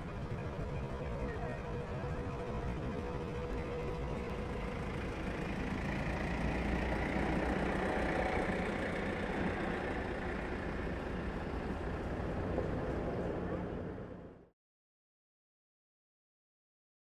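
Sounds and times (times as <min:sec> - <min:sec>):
vehicle engine idling: 0:00.0 - 0:14.4.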